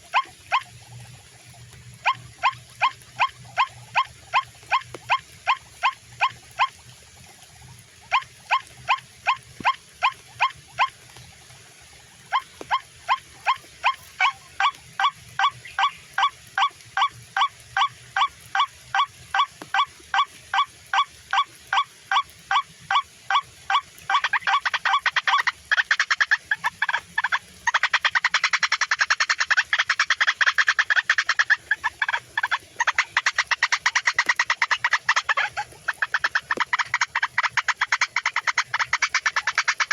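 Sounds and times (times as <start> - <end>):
waterhen harsh calls: 0.0 - 39.9.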